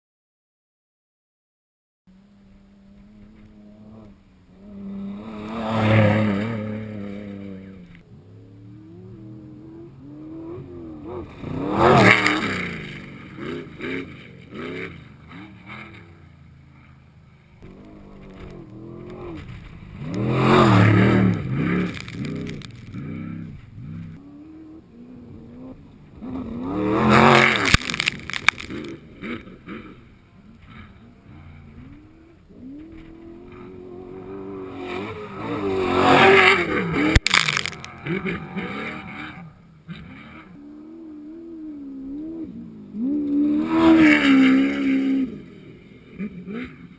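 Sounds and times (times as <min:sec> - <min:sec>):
engines revving: 0:02.1 - 0:46.9
race vehicles passing by: 0:02.1 - 0:46.9.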